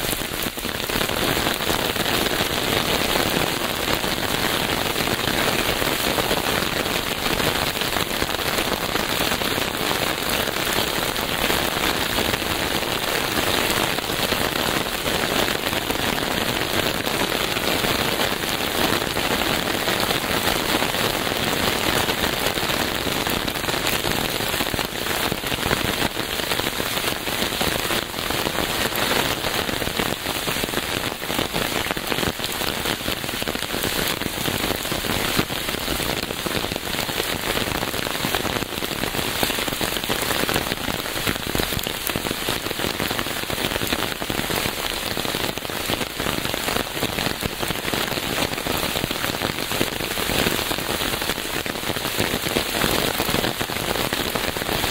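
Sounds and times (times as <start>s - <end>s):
heavy rain pattering: 0.0s - 54.9s.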